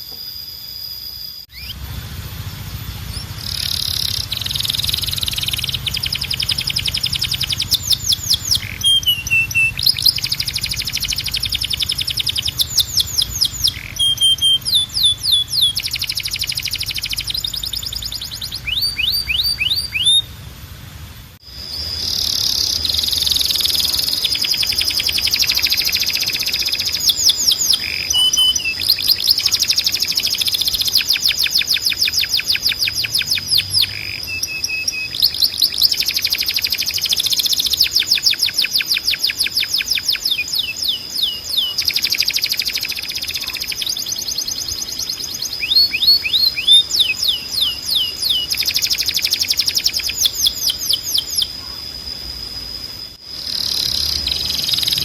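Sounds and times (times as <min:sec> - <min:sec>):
canary singing trills: 0:00.0 - 0:20.4, 0:21.4 - 0:55.0.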